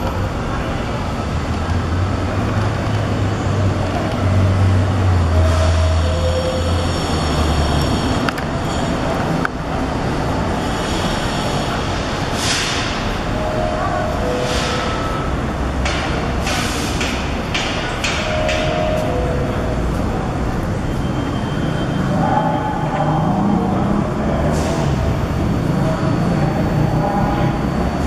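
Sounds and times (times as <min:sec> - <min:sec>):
city traffic noise: 0:00.0 - 0:28.0
train rumbling on steel structure: 0:00.0 - 0:28.0.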